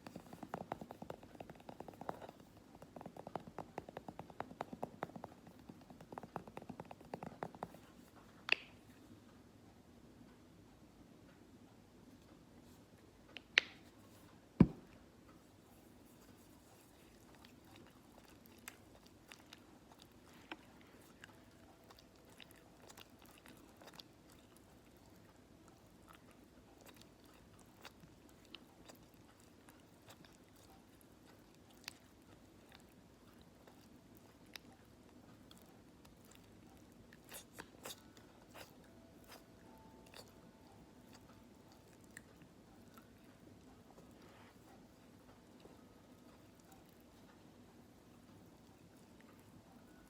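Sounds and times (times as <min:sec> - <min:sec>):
faint crackles and ticks: 0:00.0 - 0:50.0.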